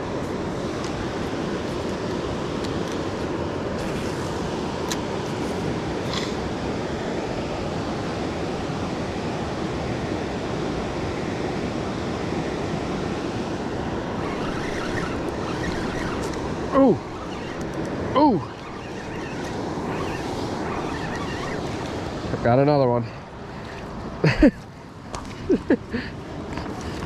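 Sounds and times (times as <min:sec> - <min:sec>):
fast-flowing river water: 0:00.0 - 0:27.0.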